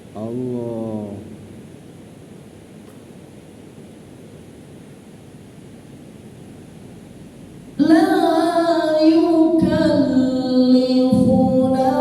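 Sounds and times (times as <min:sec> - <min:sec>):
low hiss and rumble: 0:00.0 - 0:12.0.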